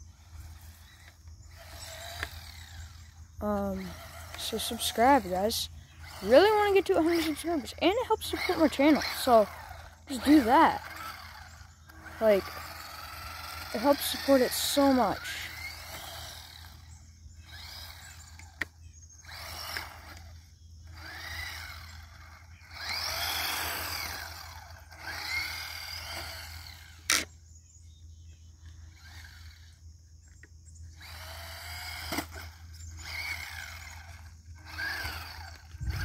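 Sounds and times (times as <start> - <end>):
small electric motor whining: 0.0 - 36.0.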